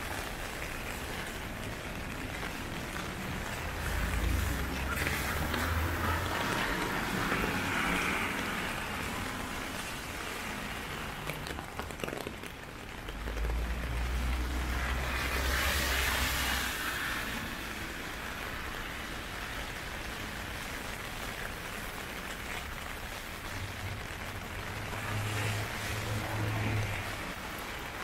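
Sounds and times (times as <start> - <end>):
heavy rain: 0.0 - 28.0
vehicle passing on wet road: 0.0 - 28.0.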